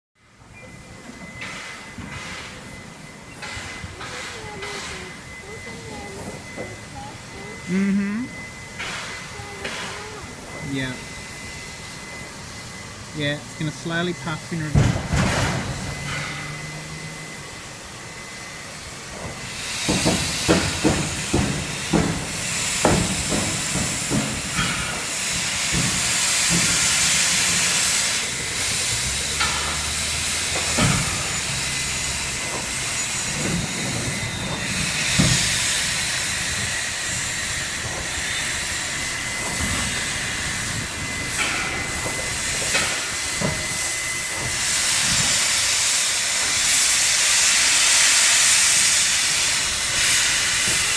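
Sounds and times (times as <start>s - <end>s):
steam locomotive hissing: 0.2s - 50.9s.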